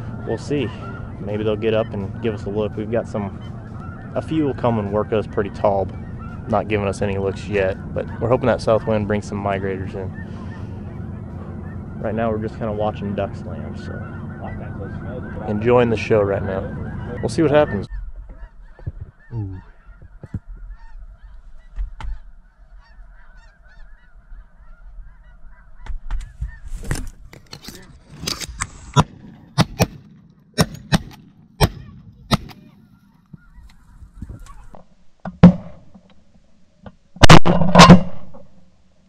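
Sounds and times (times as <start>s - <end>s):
geese calling: 0.0s - 34.8s.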